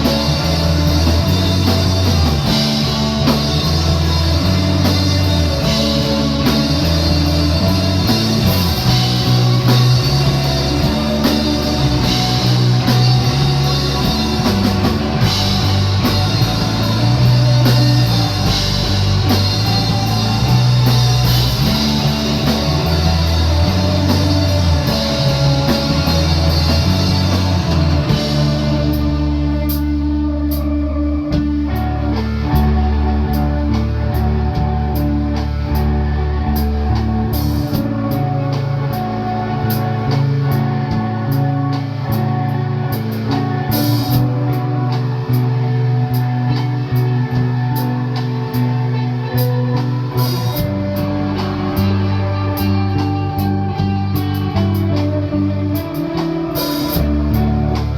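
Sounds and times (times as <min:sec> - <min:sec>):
bass guitar: 0:00.0 - 0:57.9
drum kit: 0:00.0 - 0:57.9
electric guitar: 0:00.0 - 0:57.9.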